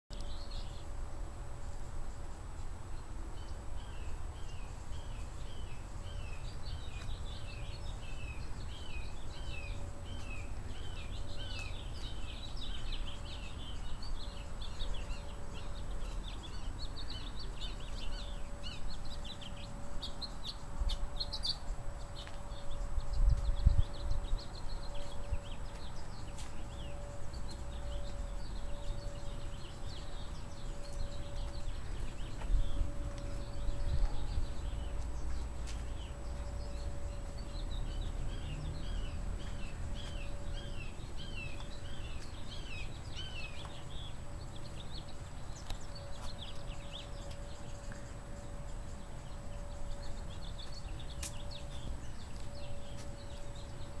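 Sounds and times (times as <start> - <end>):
small birds chirping: 0.1 - 1.0, 1.6 - 54.0
faint steady hum: 0.1 - 54.0
low rumble: 6.1 - 54.0.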